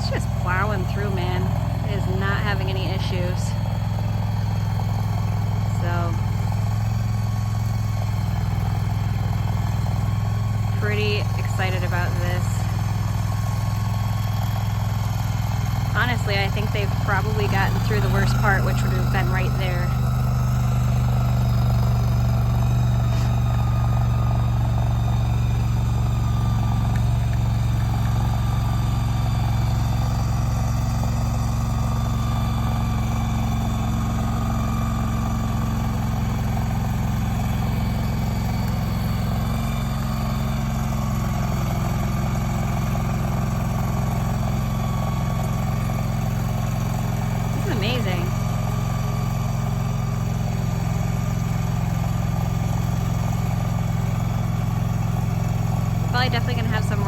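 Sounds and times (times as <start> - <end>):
shed mover engine running: 0.0 - 57.0.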